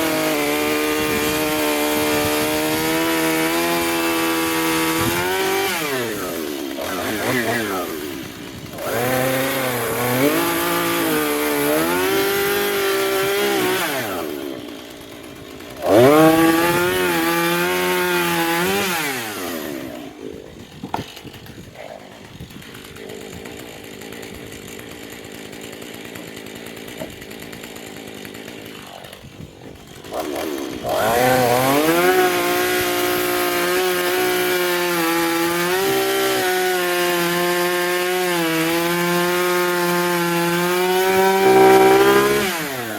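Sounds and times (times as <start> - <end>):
chainsaw cutting wood: 0.0 - 42.9
chainsaw idling: 0.0 - 42.9.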